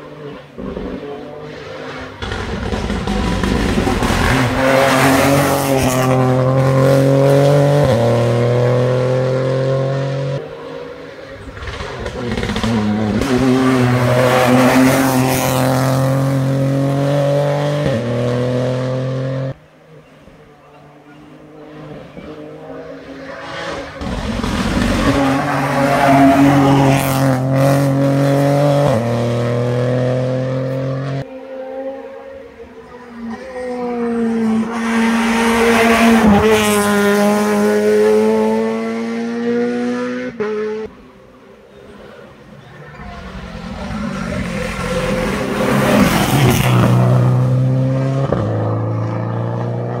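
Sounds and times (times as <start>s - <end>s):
rally car engine at full throttle: 0.0s - 50.0s.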